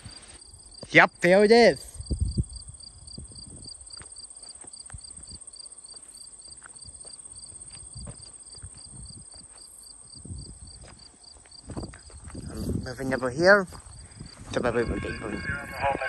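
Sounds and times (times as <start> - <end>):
crickets chirping: 0.0 - 16.0
high insect trill: 0.0 - 16.0.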